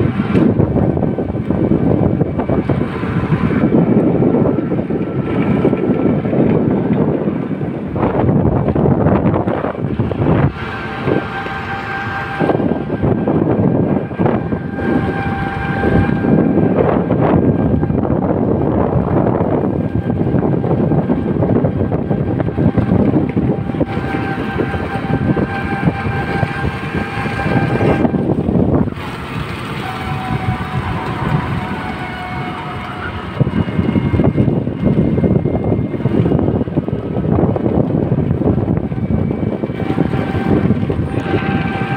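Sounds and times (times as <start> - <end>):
road rumble: 0.0 - 41.9
thin steady whine: 0.0 - 41.9
wind buffeting microphone: 0.0 - 41.9.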